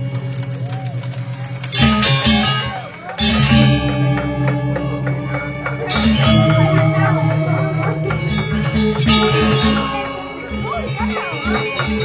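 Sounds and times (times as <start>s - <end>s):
gamelan music: 0.0s - 12.0s.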